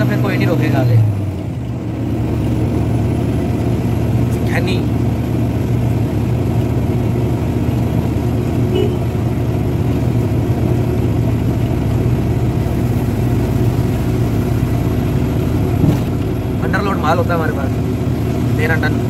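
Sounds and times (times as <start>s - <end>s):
diesel truck engine running: 0.0s - 19.0s
road noise: 0.0s - 19.0s.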